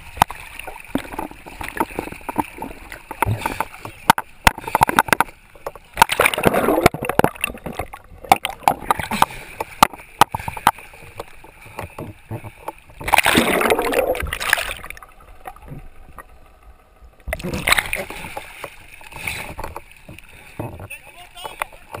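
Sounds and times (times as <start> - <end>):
water splashing and gurgling: 0.0 - 22.0.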